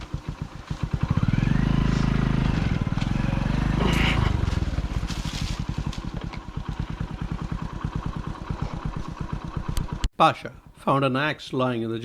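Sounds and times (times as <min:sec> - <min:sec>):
motorcycle engine idling: 0:00.0 - 0:10.1.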